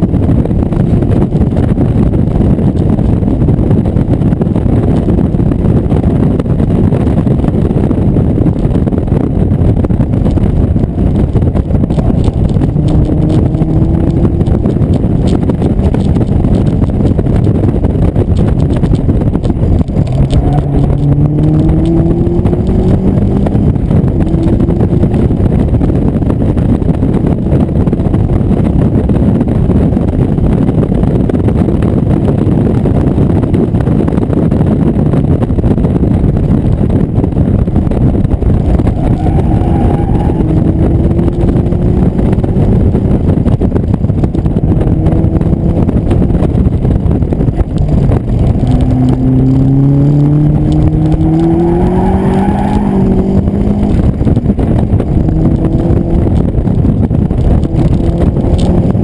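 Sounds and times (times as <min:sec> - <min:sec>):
car engine at speed: 0:00.0 - 0:59.0
wind buffeting on microphone: 0:00.0 - 0:59.0.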